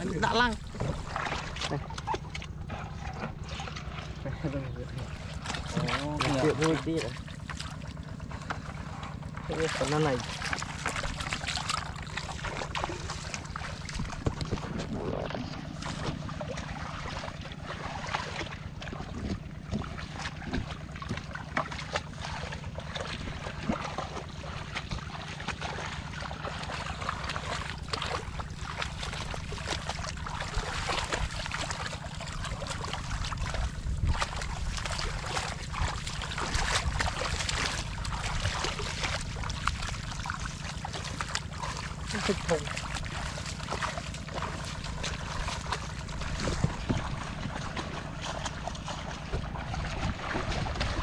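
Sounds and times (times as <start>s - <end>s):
hands splashing in muddy water: 0.0s - 51.0s
steady low hum: 0.0s - 51.0s.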